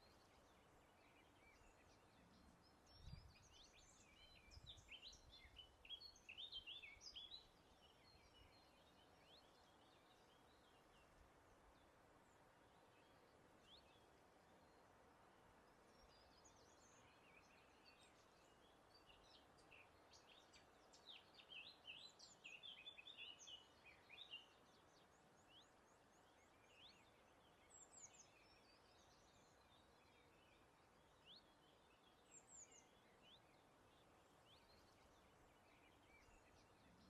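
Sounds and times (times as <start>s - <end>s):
soft breeze hiss: 0.0s - 37.0s
songbirds chirping: 0.0s - 37.0s.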